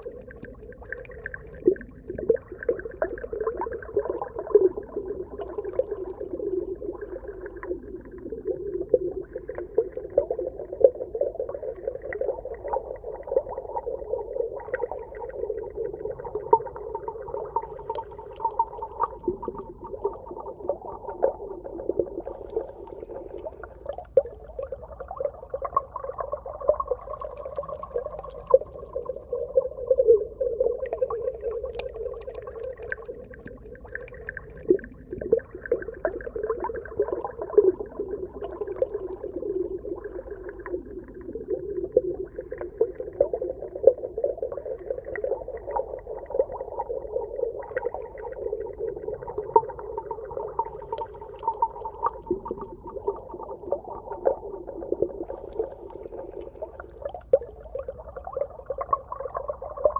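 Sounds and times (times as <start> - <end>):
small crackles and pops: 0.0 - 9.1, 16.1 - 59.9
muffled underwater water wash: 0.0 - 59.9.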